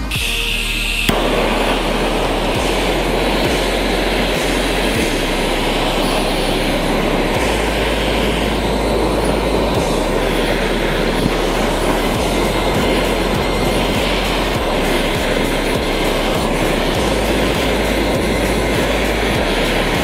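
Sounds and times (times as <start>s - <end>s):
blow torch flame rushing: 1.0s - 20.0s.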